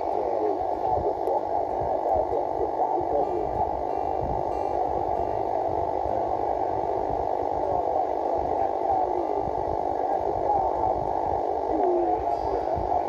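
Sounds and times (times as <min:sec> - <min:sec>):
radio static and hiss: 0:00.0 - 0:13.0.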